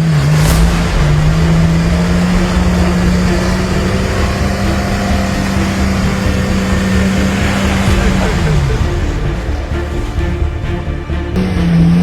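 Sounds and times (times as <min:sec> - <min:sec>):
engine running at steady revs: 0:00.0 - 0:12.0
low rumble: 0:00.0 - 0:12.0.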